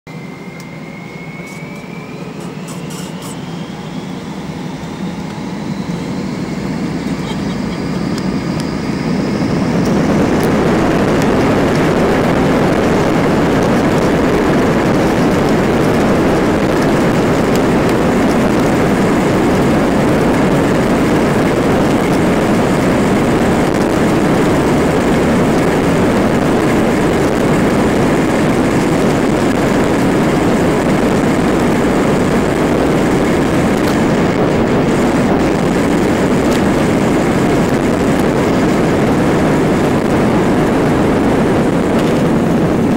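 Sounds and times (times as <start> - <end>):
jet engines from inside cabin: 0.1 - 42.9.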